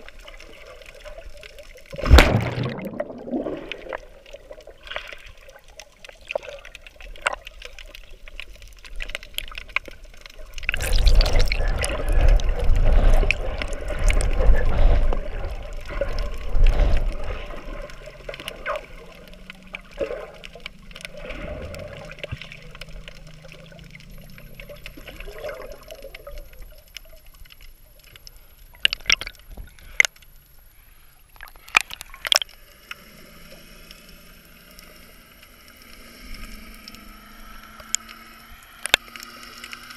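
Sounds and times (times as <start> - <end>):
water moving underwater: 0.0 - 39.9.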